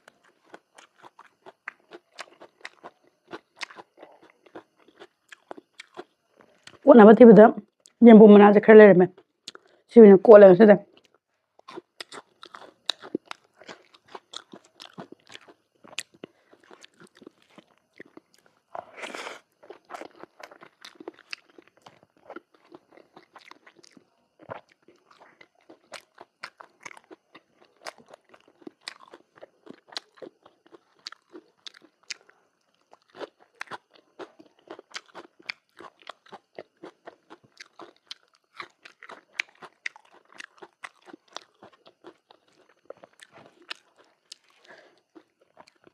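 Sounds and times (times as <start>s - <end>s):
person chewing and crunching: 0.0s - 6.8s, 9.2s - 9.9s, 10.9s - 45.9s.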